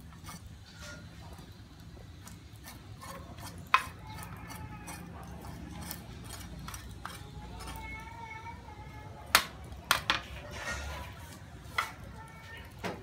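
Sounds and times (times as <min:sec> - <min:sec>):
cleaver scraping on steel tray: 0:00.0 - 0:08.1, 0:09.9 - 0:12.2.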